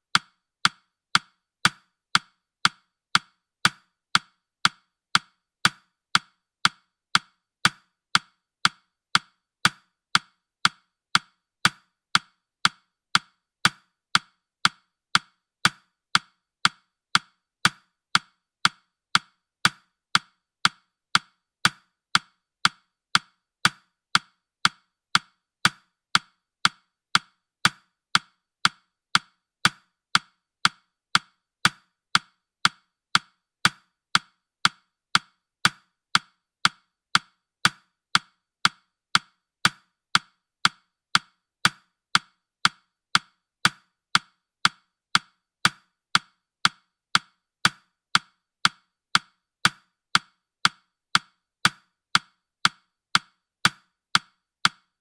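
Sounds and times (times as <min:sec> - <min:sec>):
clock-like timer ticks: 0:00.0 - 0:55.0.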